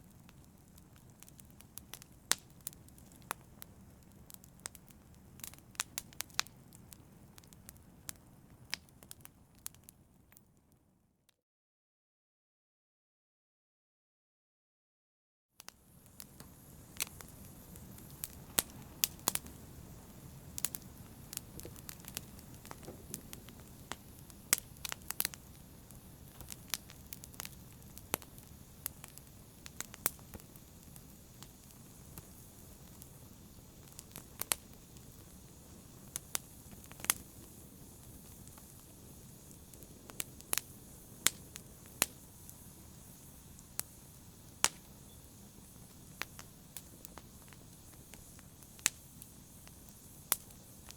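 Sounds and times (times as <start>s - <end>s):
low rumble of flames: 0.0s - 10.4s, 15.6s - 50.9s
fire crackling and popping: 0.0s - 10.8s, 15.6s - 50.9s.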